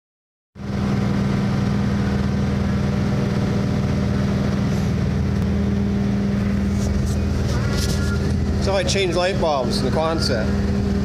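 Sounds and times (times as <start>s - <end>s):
engine idling: 0.6s - 11.0s.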